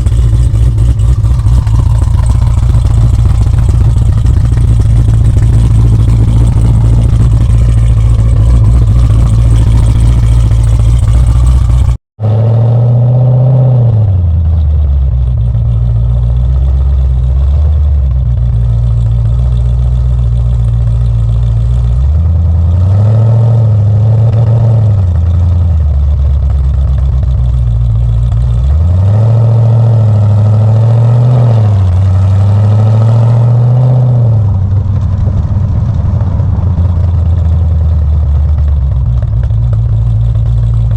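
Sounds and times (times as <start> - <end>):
loud car engine exhaust revving: 0.0 - 40.9.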